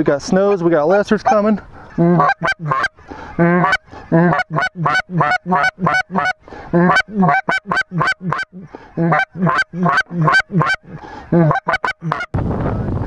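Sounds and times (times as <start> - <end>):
goose call honking: 0.3 - 12.3.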